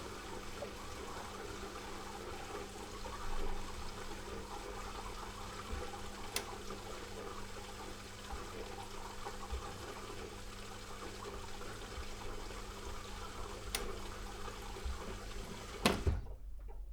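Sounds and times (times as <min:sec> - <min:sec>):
dishwasher motor hum: 0:00.0 - 0:16.9.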